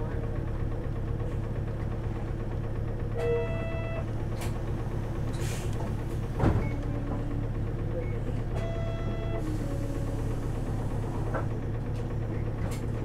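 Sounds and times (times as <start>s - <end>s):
bus diesel engine humming: 0.0s - 13.0s.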